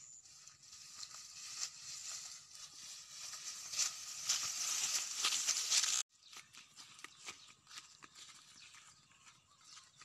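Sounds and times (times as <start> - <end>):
grass rustling as people walk: 0.2 - 10.0.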